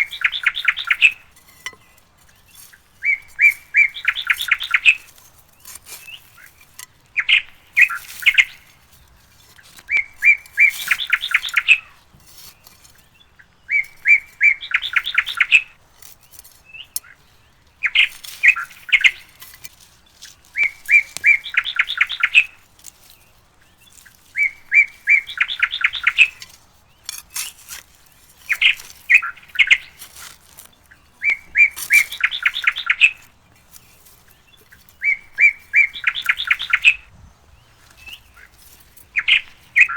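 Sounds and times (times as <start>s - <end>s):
bird chirping rapidly: 0.0s - 1.6s, 2.2s - 6.6s, 7.2s - 8.7s, 9.5s - 12.0s, 12.6s - 15.8s, 16.6s - 19.4s, 20.5s - 22.6s, 23.7s - 27.5s, 28.2s - 30.0s, 30.8s - 39.9s.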